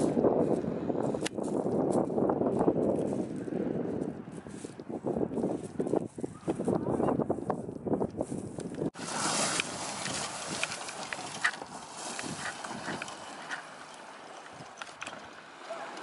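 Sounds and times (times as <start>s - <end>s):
footsteps on pebbles: 0.0s - 6.8s, 7.5s - 15.2s.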